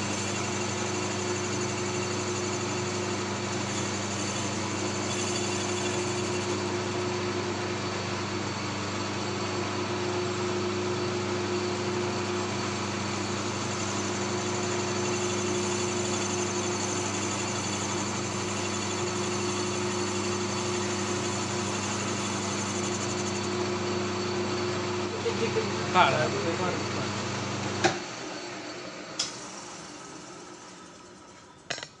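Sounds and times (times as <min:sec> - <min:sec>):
metal lathe humming: 0:00.0 - 0:31.9.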